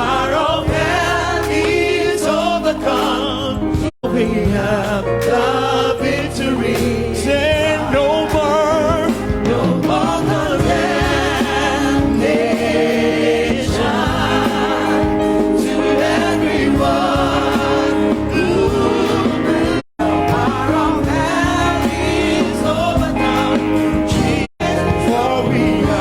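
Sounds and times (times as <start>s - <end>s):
church choir singing: 0.0s - 26.0s
musical accompaniment: 0.0s - 26.0s.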